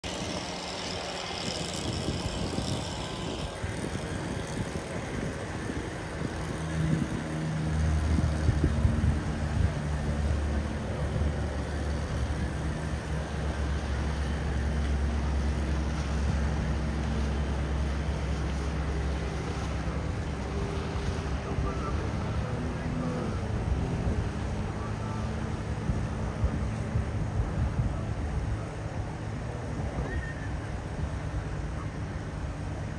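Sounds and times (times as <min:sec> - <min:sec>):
jet ski engine drone: 0:00.0 - 0:32.9
wind on microphone: 0:00.0 - 0:32.9.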